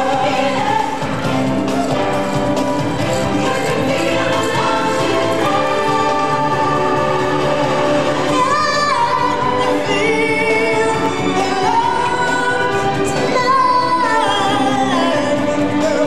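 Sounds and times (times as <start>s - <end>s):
woman singing: 0.0s - 2.0s, 3.2s - 16.0s
sustained backing music: 0.0s - 16.0s.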